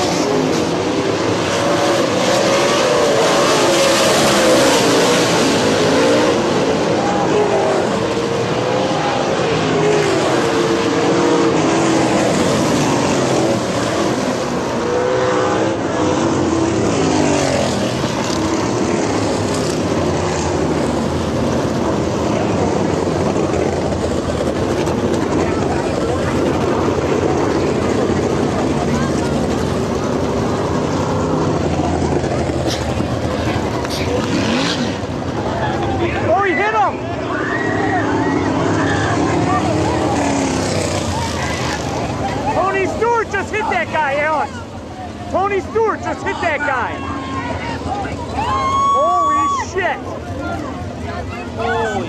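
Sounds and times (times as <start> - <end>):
race car engines revving and passing: 0.0 - 52.0.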